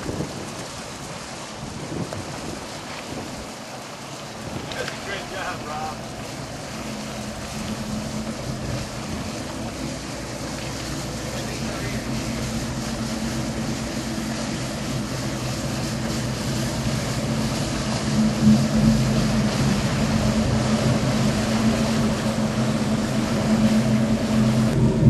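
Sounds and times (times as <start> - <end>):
boat diesel engines droning: 0.0 - 25.0.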